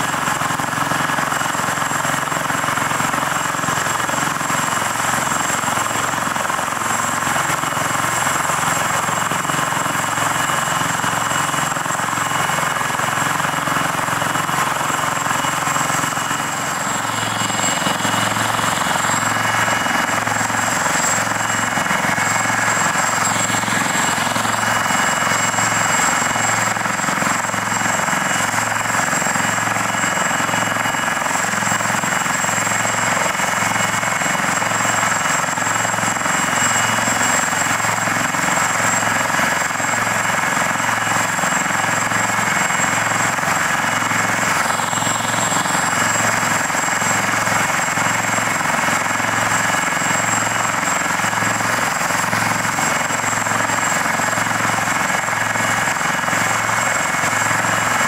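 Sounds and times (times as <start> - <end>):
helicopter rotor beat: 0.0 - 58.0
helicopter turbine whine: 0.0 - 58.0.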